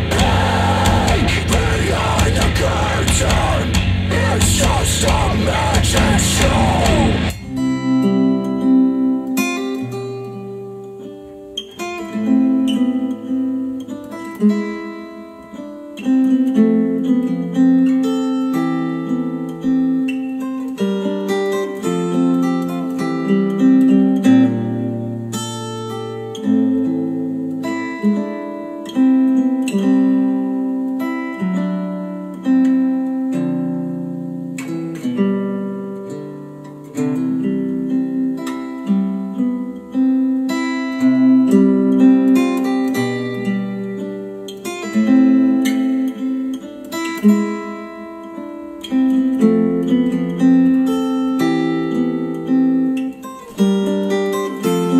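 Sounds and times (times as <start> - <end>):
acoustic guitar music over speakers: 0.0 - 54.9.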